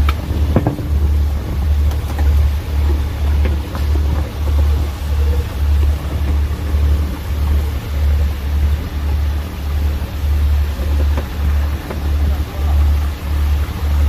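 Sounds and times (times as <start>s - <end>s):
boat engine throbbing: 0.0s - 14.0s
water noise: 0.0s - 14.0s.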